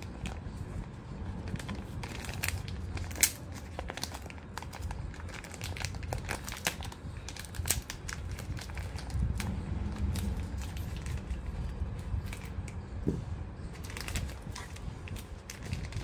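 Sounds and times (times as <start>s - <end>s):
plastic bag crinkling: 0.0s - 12.7s, 13.7s - 16.0s.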